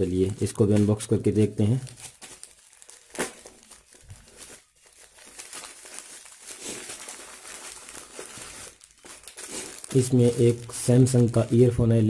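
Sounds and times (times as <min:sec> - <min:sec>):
plastic packet crinkling and tearing: 0:00.0 - 0:12.0.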